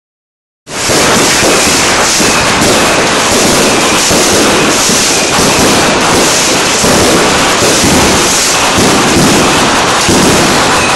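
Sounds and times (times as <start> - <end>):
fireworks and firecrackers bangs: 0.7 - 10.9.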